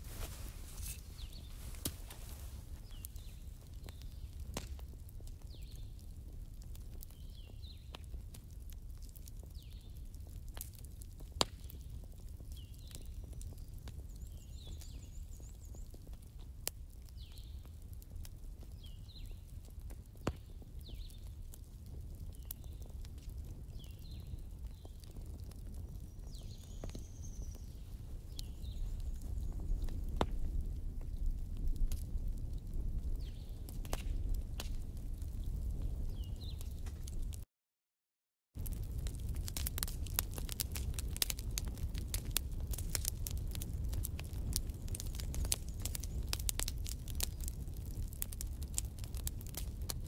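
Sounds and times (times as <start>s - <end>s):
wood fire crackling and popping: 0.0s - 37.4s, 38.6s - 50.0s.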